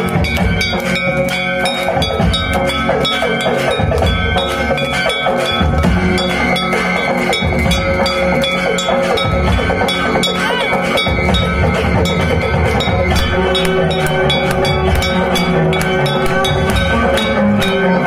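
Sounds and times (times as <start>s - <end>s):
bells ringing: 0.0s - 18.0s
devotional music: 0.0s - 18.0s
drums beating: 0.0s - 18.0s
sustained tones: 0.0s - 18.0s.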